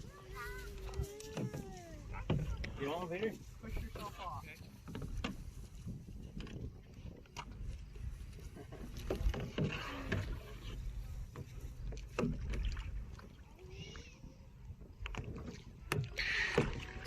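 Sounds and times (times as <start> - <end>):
paddle splashes: 0.0 - 17.0
paddle knocking against hull: 0.9 - 13.4, 14.7 - 17.0.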